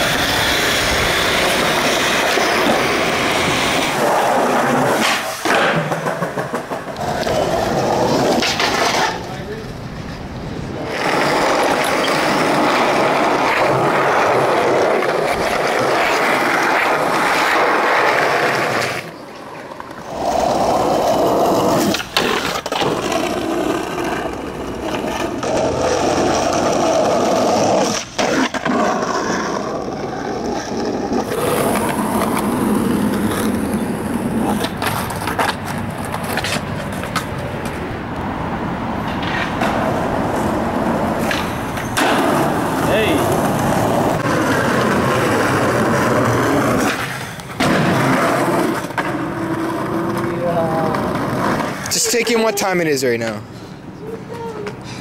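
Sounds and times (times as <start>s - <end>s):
skateboard clacking on ground: 0.0s - 52.9s
skateboard wheels rolling on concrete: 0.0s - 55.0s.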